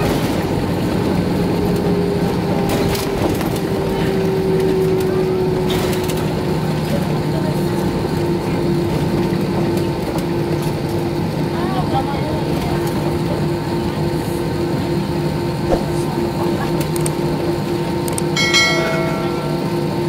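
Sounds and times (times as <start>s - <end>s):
wheels rolling rumble: 0.0s - 20.0s.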